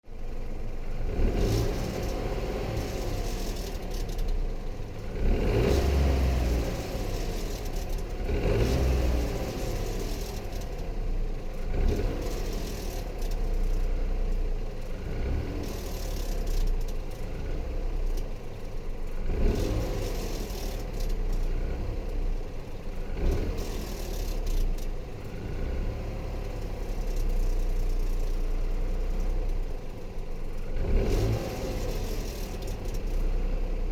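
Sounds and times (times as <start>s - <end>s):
car engine decelerating: 0.9s - 13.8s, 14.8s - 33.9s.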